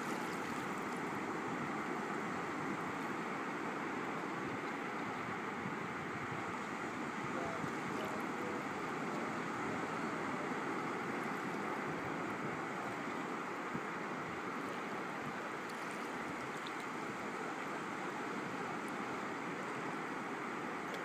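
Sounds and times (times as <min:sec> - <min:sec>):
shallow water washing over sand: 0:00.0 - 0:21.0.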